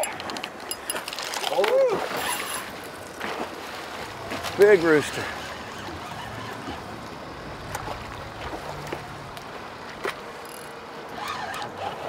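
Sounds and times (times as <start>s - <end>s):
sea water washing: 0.0s - 12.0s
wind: 0.0s - 12.0s.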